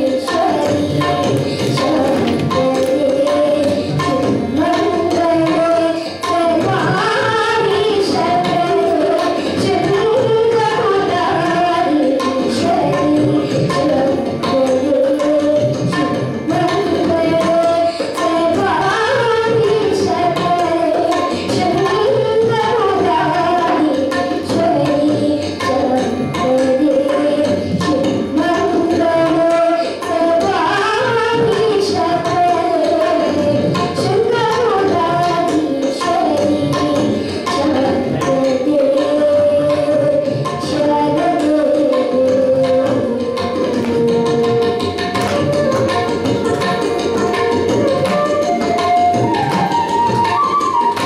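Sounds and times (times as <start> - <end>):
boy singing devotional song: 0.0 - 51.0
tabla strokes: 0.0 - 51.0.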